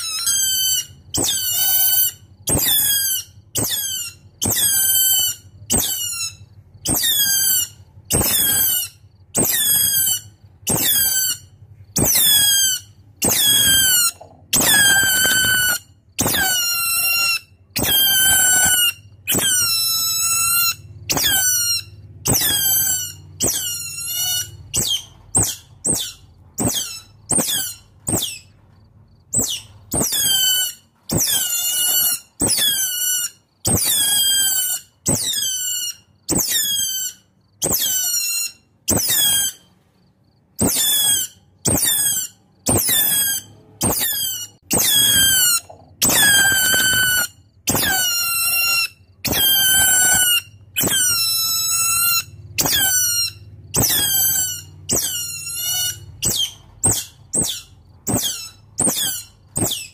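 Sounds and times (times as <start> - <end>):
otter squeaking: 0.0 - 39.7, 40.6 - 59.9.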